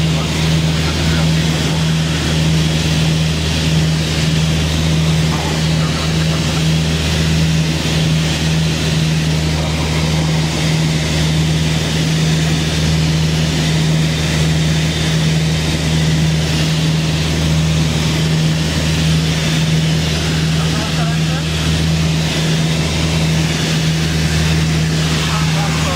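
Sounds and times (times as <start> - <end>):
aircraft engines and propellers droning: 0.0 - 25.9.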